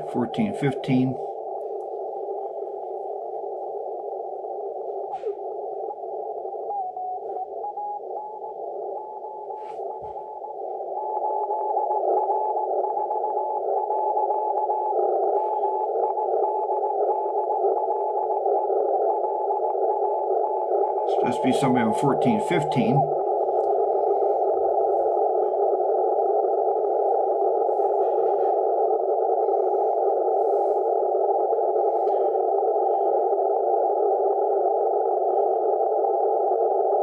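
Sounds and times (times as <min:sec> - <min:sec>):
faint radio tones: 0:00.0 - 0:37.0
radio receiver hiss: 0:00.0 - 0:37.0.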